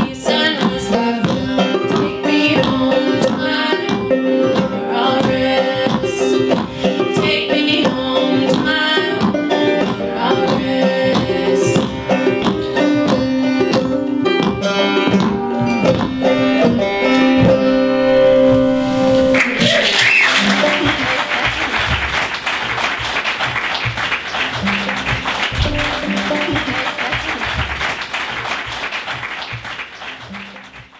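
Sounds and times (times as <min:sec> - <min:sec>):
acoustic string band playing: 0:00.0 - 0:30.9.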